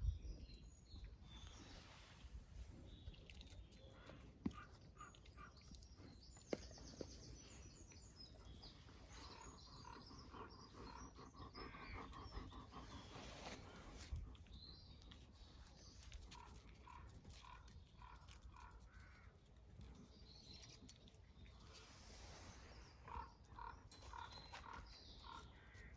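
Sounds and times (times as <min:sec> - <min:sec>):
faint birds chirping: 0:00.0 - 0:25.9.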